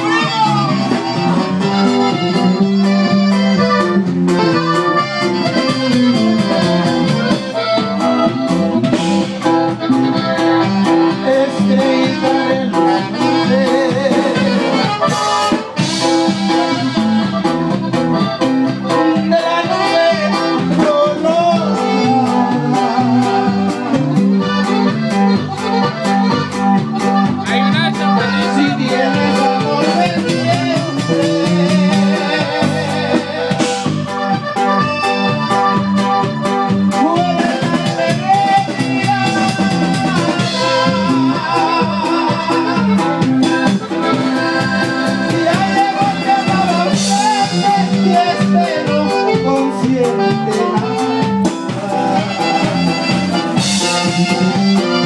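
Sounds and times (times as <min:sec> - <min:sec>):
live band with accordion: 0:00.0 - 0:55.0.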